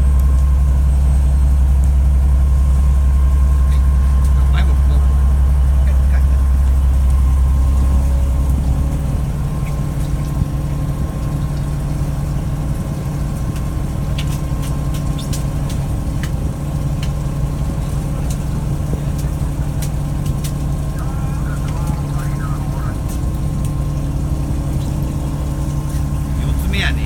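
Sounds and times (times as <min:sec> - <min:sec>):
boat diesel engine droning: 0:00.0 - 0:27.0.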